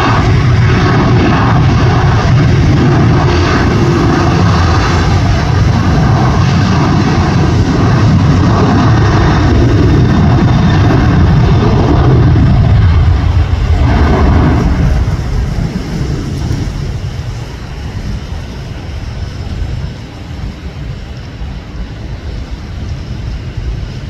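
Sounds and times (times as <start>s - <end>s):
jet engines at takeoff power: 0.0s - 24.0s.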